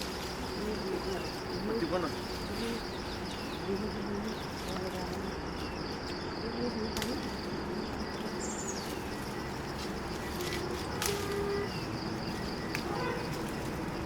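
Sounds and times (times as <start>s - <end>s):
bird chirps: 0.0s - 14.0s
insect drone: 0.0s - 14.0s.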